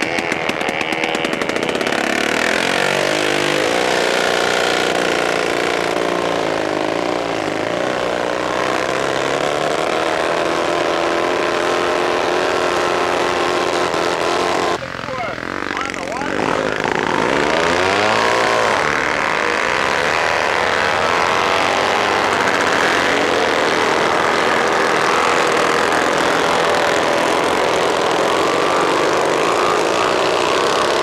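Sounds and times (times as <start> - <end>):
racing outboard motor revving: 0.0 - 31.0.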